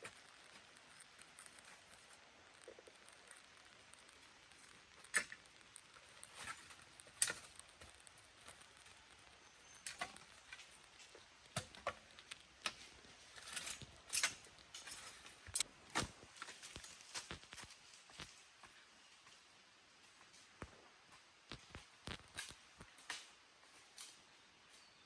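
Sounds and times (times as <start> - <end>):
sticks and leaves being handled: 0.0 - 25.0.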